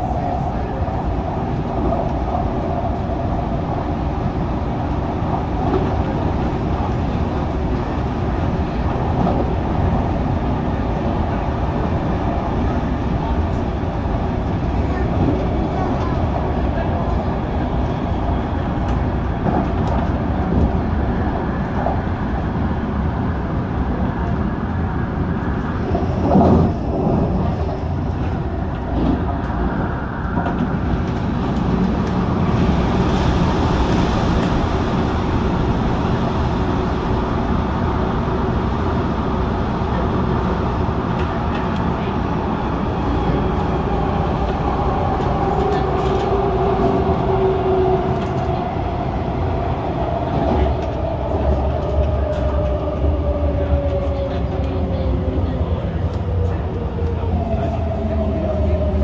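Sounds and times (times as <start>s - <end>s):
train rolling noise: 0.0s - 59.0s.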